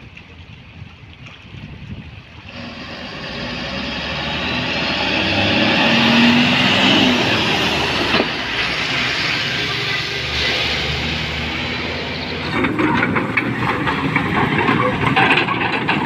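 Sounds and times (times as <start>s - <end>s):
dump truck driving past: 2.5s - 16.0s
tyres splashing through mud: 2.5s - 16.0s.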